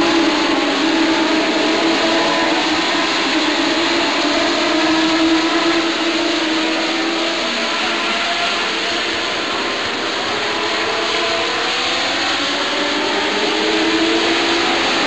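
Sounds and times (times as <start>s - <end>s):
race car engines at speed: 0.0s - 15.0s.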